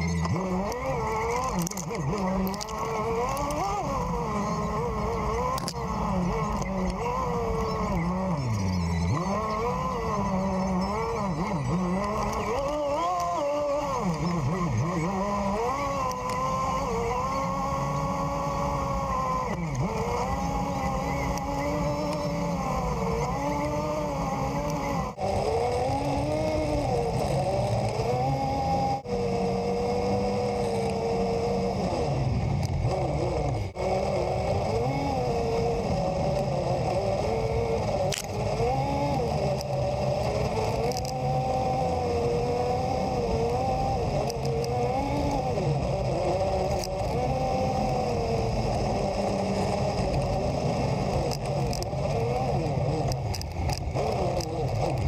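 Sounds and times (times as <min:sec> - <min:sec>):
low drivetrain rumble: 0:00.0 - 0:55.0
off-road vehicle engine running: 0:00.0 - 0:55.0.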